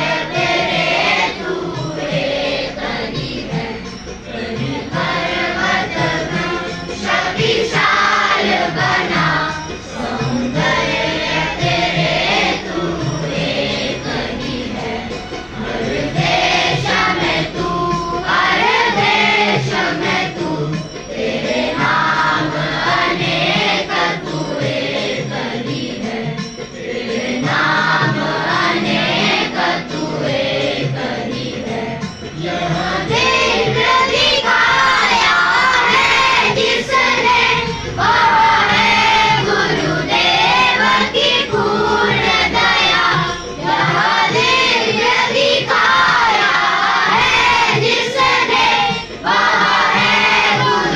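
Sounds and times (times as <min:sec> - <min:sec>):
children singing in unison: 0:00.0 - 0:50.9.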